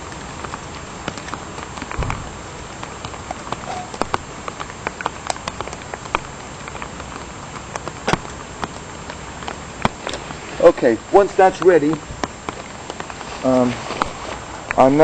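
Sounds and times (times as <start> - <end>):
light rain falling: 0.0 - 15.0
wood fire crackling: 0.0 - 15.0.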